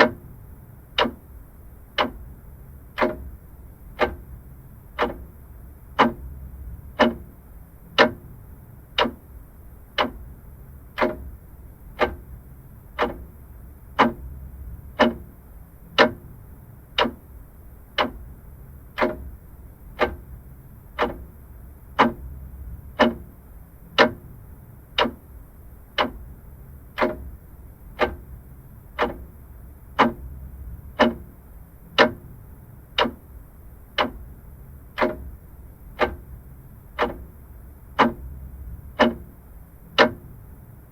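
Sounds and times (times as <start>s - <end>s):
mechanical clock ticking: 0.0s - 40.7s
faint low rumble: 0.1s - 40.9s.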